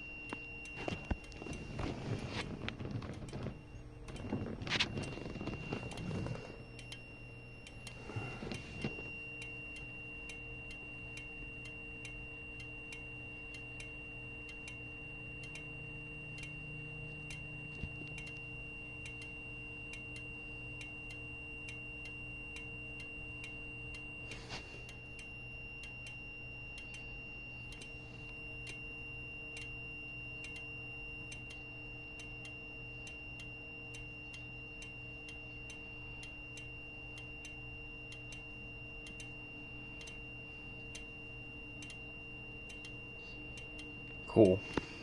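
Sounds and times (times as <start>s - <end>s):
fire alarm strobes ticking: 0.0s - 45.0s
steady high-pitched tone: 0.0s - 45.0s.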